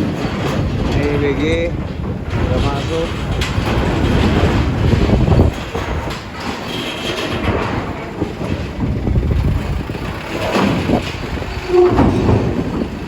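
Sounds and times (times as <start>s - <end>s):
clanks and knocks: 0.0s - 13.0s
vehicles rumbling over steel ramp: 0.0s - 13.0s
wind noise: 0.0s - 13.0s.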